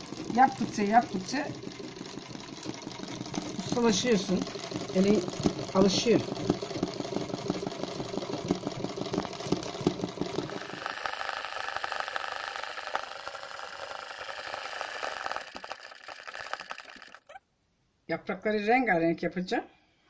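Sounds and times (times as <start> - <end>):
sewing machine stitching: 0.0 - 17.4.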